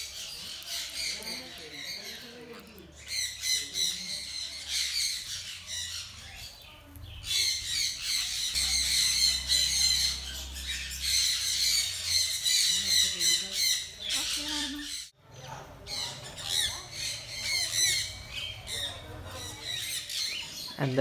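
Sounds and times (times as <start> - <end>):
parrots squawking: 0.0 - 21.0.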